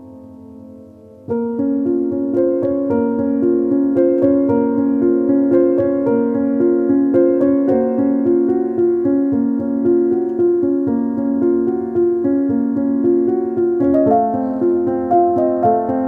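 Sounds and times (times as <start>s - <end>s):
keyboard melody: 0.0s - 16.0s.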